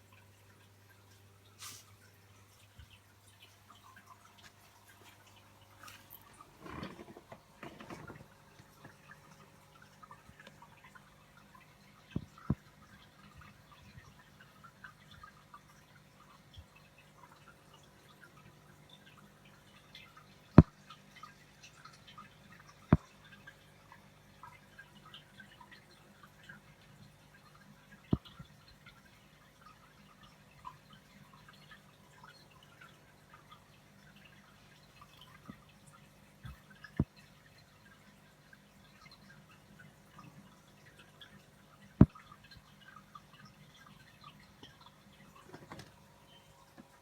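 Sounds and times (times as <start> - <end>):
aquarium water trickling: 0.0 - 47.0
low steady pump hum: 0.0 - 47.0.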